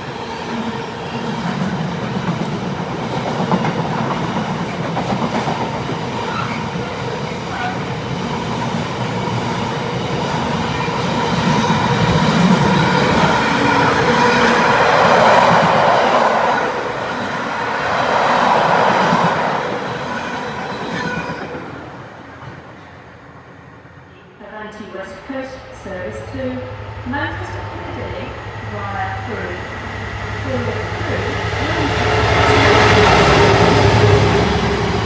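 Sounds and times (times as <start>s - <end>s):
train wheels rumbling on rails: 0.0s - 22.9s, 25.5s - 35.0s.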